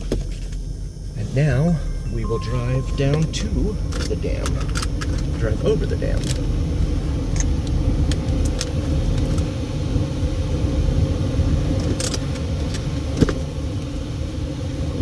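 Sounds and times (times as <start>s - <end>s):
air conditioning blowing: 0.0s - 15.0s
car engine rumbling: 0.0s - 15.0s.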